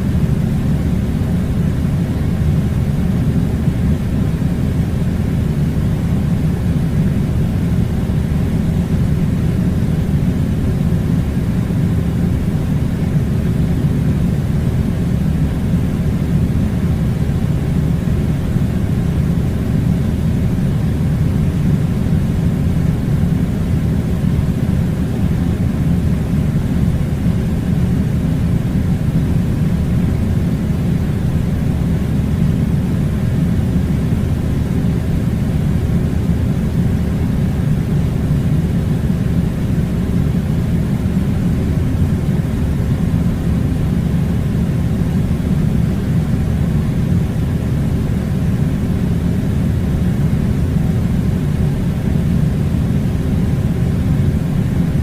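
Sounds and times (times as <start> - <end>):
air conditioner low rumble: 0.0 - 55.0.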